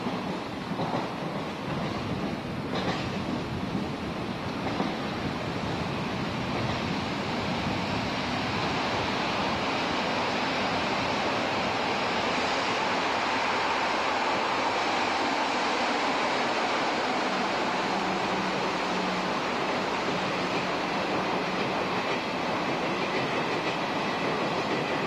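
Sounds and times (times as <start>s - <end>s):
train rushing rumble: 0.0s - 25.0s.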